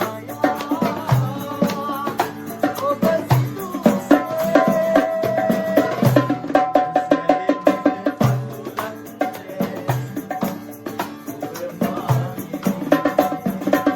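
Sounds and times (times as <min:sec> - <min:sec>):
percussion beat: 0:00.0 - 0:13.9.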